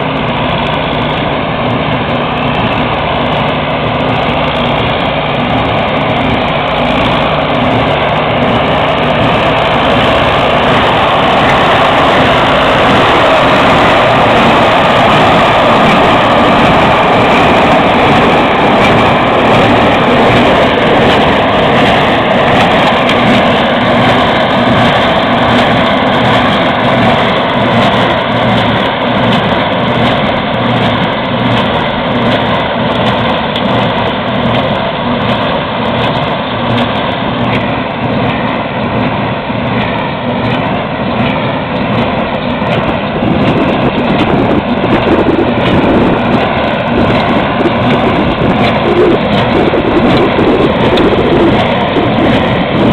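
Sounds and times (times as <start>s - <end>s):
heavy engine running: 0.0s - 52.9s.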